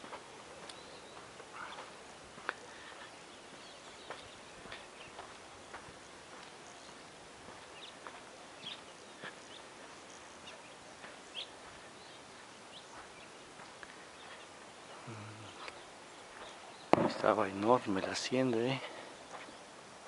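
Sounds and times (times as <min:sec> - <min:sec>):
soft steps on a dirt path: 0:00.0 - 0:20.0.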